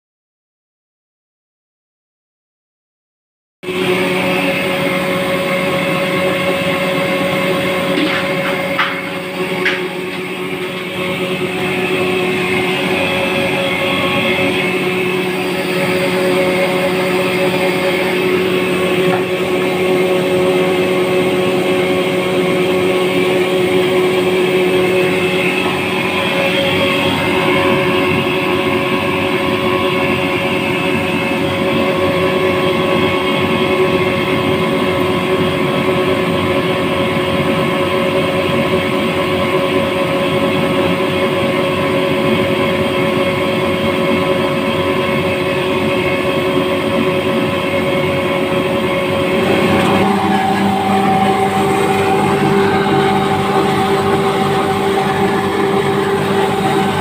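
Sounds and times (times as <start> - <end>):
machine motors humming: 3.7 - 57.0.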